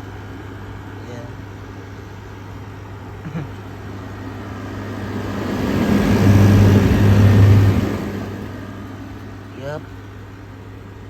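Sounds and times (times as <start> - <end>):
air conditioner compressor hum: 0.0 - 11.0.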